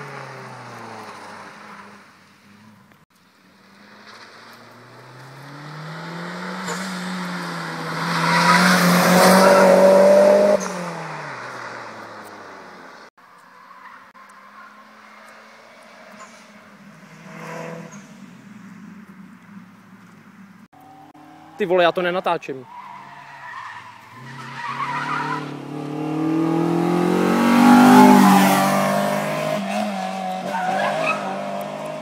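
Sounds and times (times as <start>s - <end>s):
car engine passing by: 0.0s - 13.1s, 14.4s - 22.4s, 24.1s - 32.0s.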